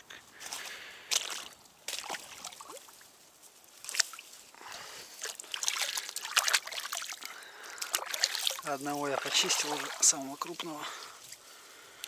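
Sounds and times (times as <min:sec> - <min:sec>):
water sloshing and trickling: 0:00.4 - 0:12.0.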